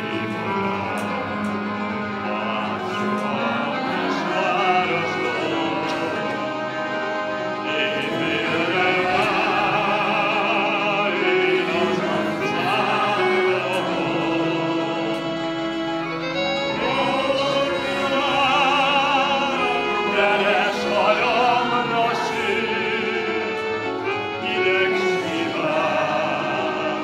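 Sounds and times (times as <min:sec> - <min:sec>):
instrumental accompaniment: 0:00.0 - 0:27.0
man singing with vibrato: 0:00.0 - 0:27.0.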